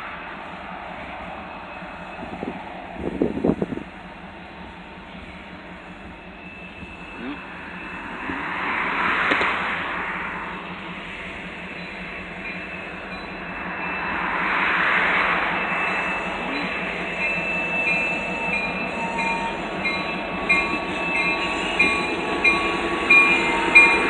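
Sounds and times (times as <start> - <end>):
diesel locomotive rolling past: 0.0 - 24.0
locomotive bell ringing: 0.0 - 24.0.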